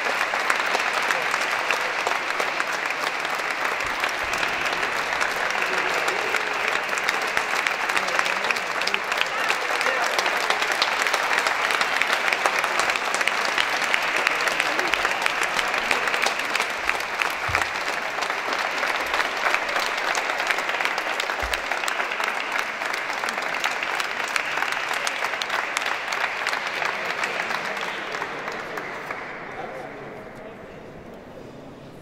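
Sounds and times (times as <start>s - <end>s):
audience applauding: 0.0s - 30.1s.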